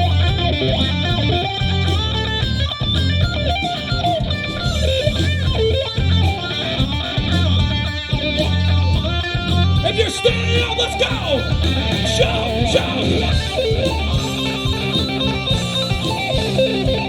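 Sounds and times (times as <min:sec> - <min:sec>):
bass guitar: 0:00.0 - 0:17.0
drums with steady beat: 0:00.0 - 0:17.0
electric guitar: 0:00.0 - 0:17.0.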